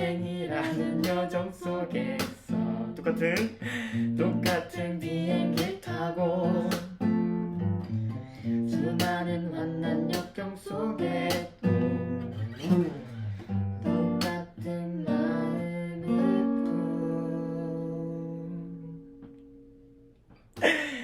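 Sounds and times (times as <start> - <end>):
acoustic guitar strummed chords: 0.0 - 20.1.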